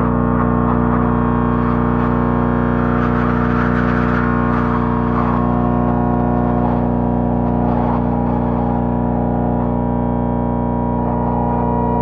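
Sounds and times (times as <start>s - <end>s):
distorted drone: 0.0s - 12.0s.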